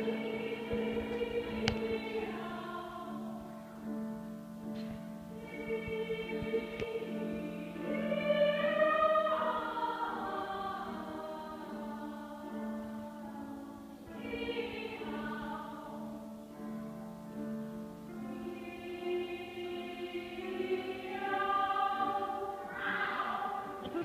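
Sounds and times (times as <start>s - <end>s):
women's choir singing: 0.0s - 4.1s, 5.2s - 24.0s.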